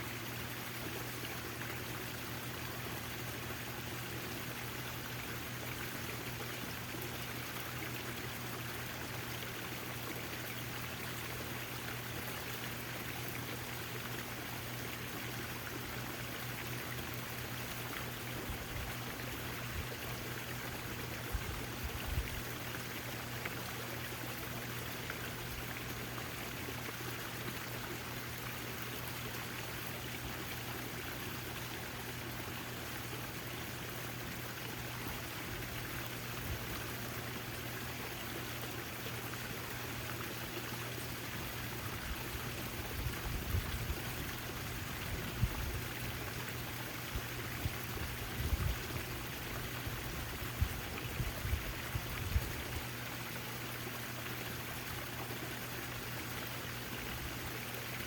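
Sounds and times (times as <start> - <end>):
fountain water splashing: 0.0 - 58.0
low steady hum: 0.0 - 58.0.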